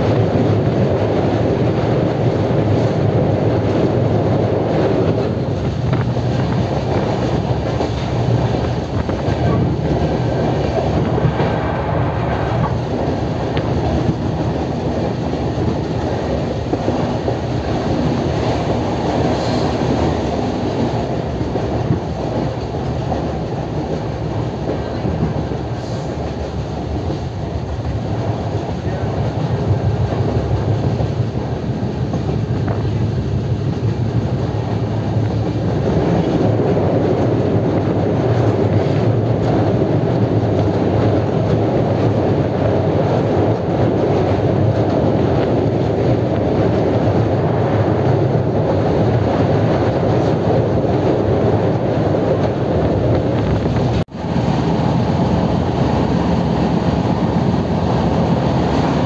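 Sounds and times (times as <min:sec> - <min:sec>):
train coach rumble: 0:00.0 - 0:59.0.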